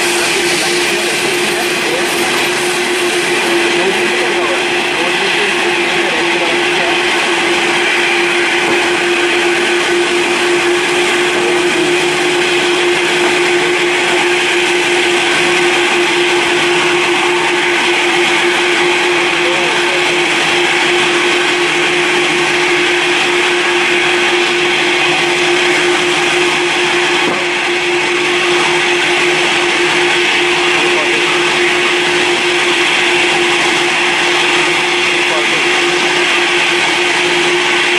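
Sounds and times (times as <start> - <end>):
jet engines running: 0.0 - 37.9.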